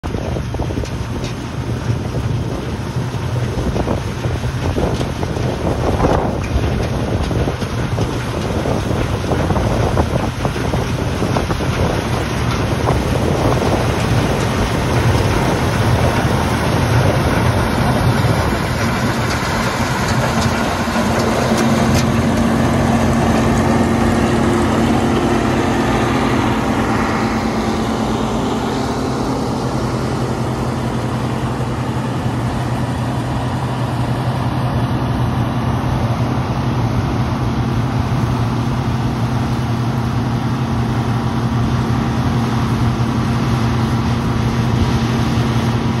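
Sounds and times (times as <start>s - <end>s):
combine harvester engine hum: 0.0s - 46.0s
working machinery noise: 0.0s - 46.0s.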